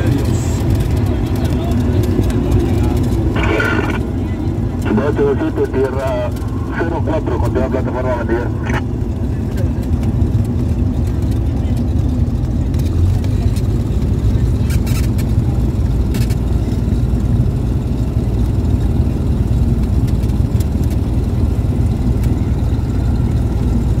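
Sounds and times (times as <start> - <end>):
light aircraft engine and propeller: 0.0 - 24.0.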